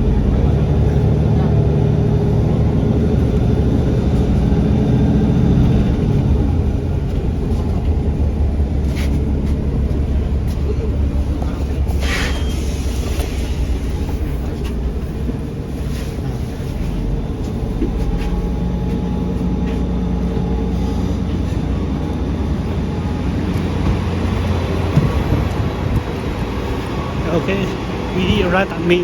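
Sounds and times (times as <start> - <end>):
transit vehicle rumble: 0.0 - 29.0.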